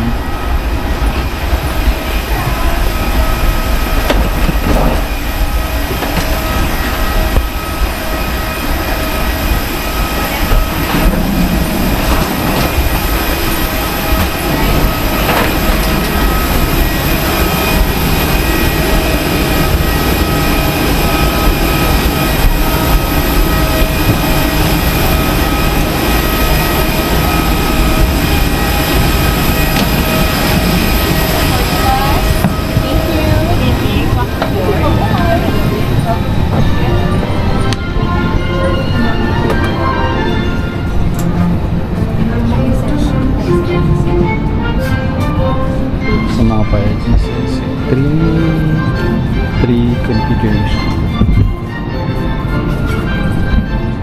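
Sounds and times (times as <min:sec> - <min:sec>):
high machinery whine: 0:00.0 - 0:54.0
low machinery rumble: 0:00.0 - 0:54.0.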